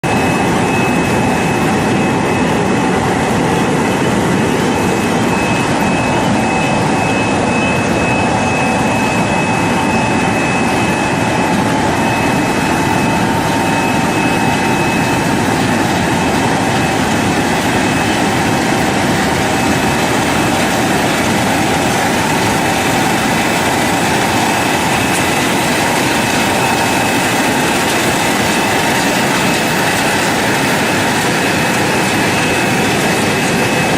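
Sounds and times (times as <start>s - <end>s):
constant whining tones: 0.0s - 33.9s
washing machine running: 0.0s - 33.9s.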